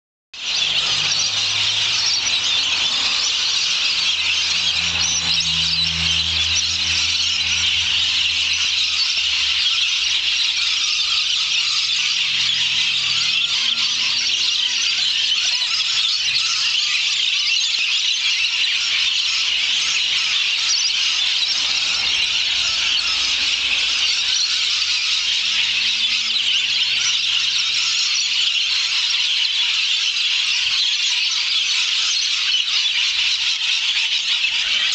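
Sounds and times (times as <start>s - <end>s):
flock of birds screeching: 0.4s - 34.9s.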